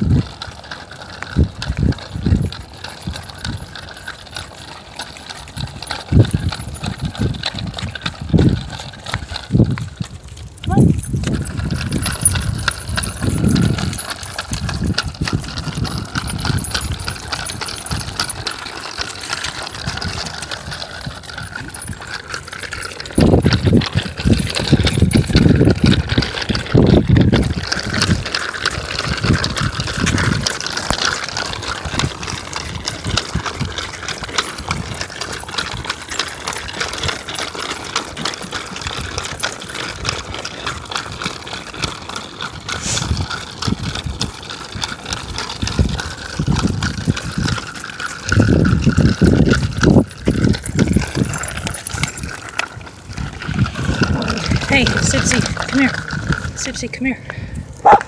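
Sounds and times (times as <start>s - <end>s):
dog wheelchair rolling over asphalt: 0.0s - 58.0s
metallic jingles of dog tags: 0.0s - 58.0s.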